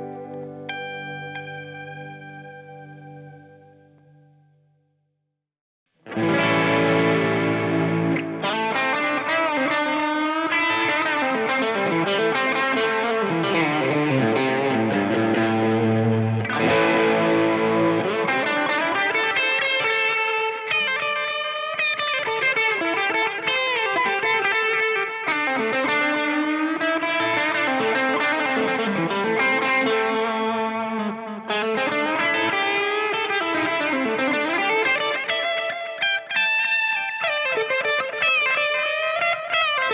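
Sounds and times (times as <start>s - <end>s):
overdriven electric guitar with echo: 0.0s - 4.8s, 6.0s - 39.9s.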